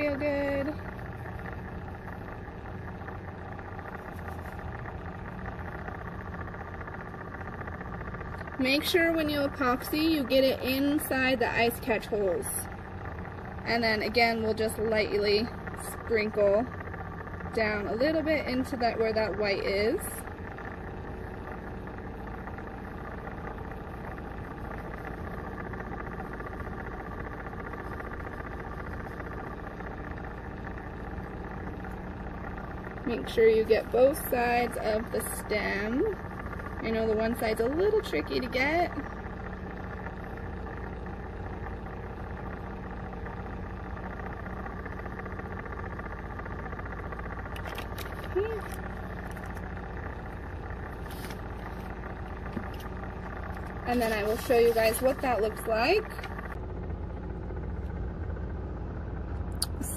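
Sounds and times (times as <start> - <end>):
small electric motor humming: 0.0 - 59.9.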